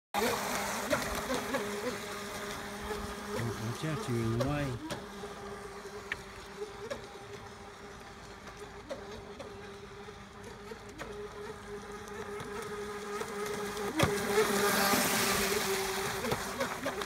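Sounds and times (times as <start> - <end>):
electric motor whining: 0.2 - 17.0.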